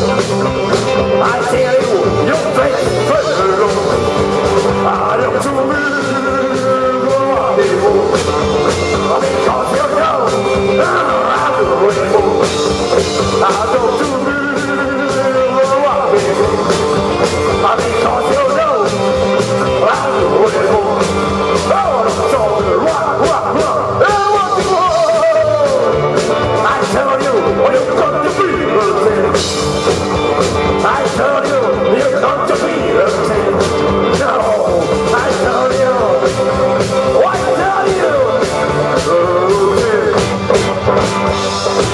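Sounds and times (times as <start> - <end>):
rock band playing: 0.0 - 41.9.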